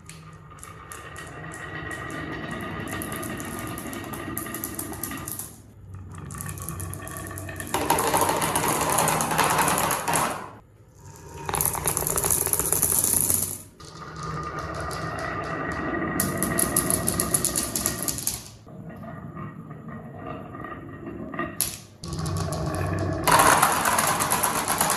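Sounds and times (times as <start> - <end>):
marbles rattling down wooden track: 0.1 - 5.7, 6.4 - 10.6, 11.4 - 18.7, 21.6 - 24.9.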